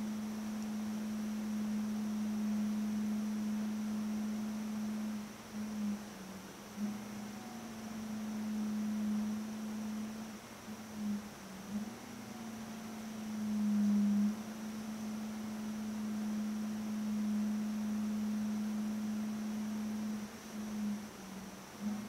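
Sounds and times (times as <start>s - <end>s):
faint high whine: 0.0s - 22.0s
low pure tone: 0.0s - 22.0s.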